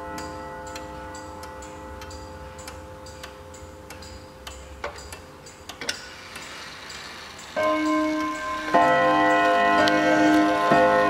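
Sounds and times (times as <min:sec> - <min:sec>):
clock strike ringing: 0:00.0 - 0:11.0
wall clock ticking: 0:00.0 - 0:11.0
clock hand clicks: 0:00.1 - 0:10.9.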